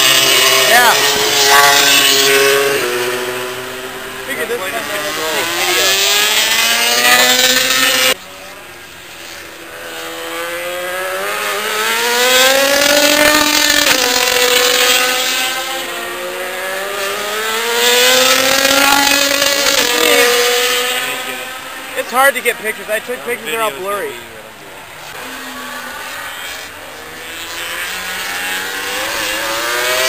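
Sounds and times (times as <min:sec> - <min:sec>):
racing motorcycles at high revs: 0:00.0 - 0:30.0.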